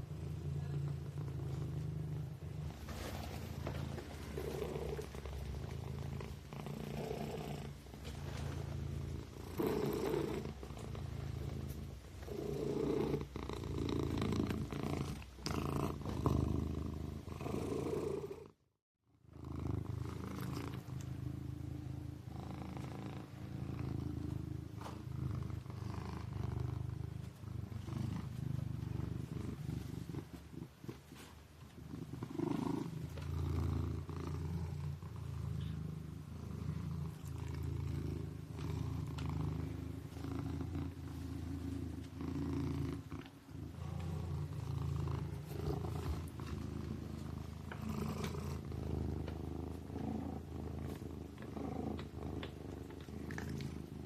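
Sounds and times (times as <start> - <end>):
kitten purring: 0.0 - 54.0.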